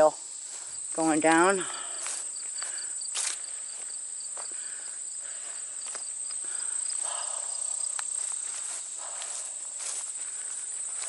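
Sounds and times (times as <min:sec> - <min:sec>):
footsteps rustling through grass: 0:00.0 - 0:11.0
high-pitched insect trill: 0:00.0 - 0:11.0.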